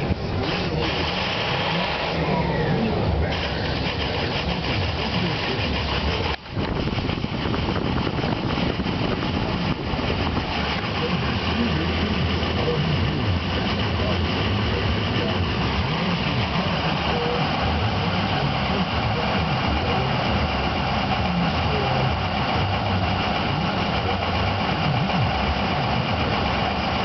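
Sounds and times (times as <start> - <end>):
diesel engine idling roughly: 0.0 - 27.0.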